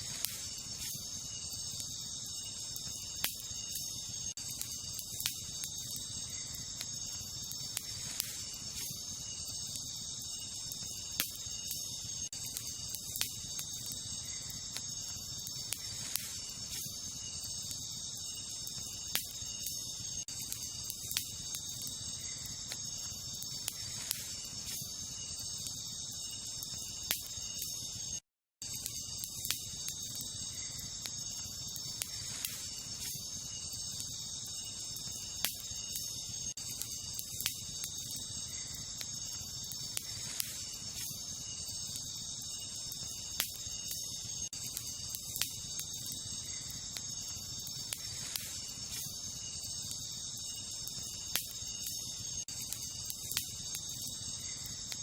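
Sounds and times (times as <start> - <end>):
campfire crackling and popping: 0.0 - 55.0
night insects chirring: 0.0 - 55.0.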